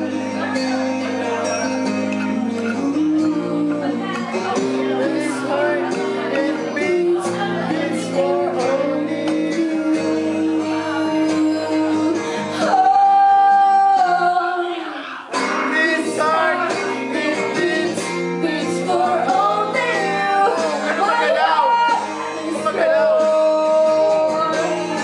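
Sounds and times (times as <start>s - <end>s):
acoustic guitar: 0.0s - 25.0s
woman singing: 2.6s - 25.0s.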